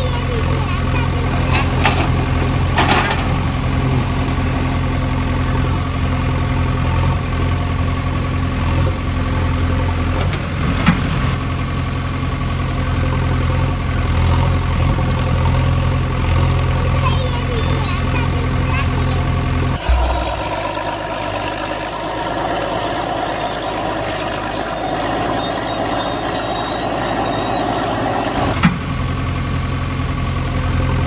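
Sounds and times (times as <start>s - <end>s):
engine idling hum: 0.0s - 24.9s, 28.4s - 31.0s.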